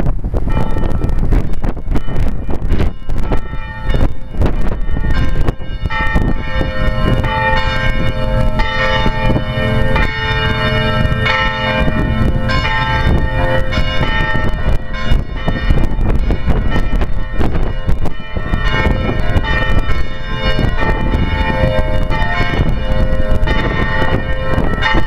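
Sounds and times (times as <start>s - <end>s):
church bells ringing: 0.0s - 25.0s
wind rumble on microphone: 0.0s - 25.0s.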